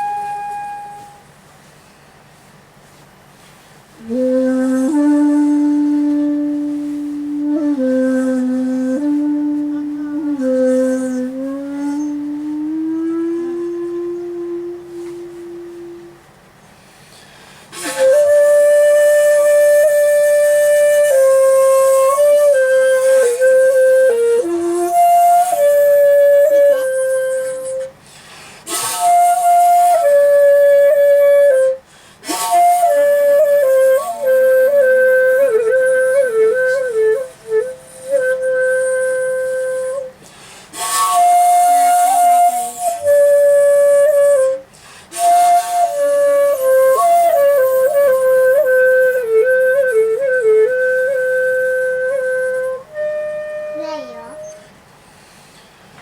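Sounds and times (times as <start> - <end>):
bamboo flute long notes: 0.0 - 1.4, 4.0 - 16.5, 17.5 - 54.9.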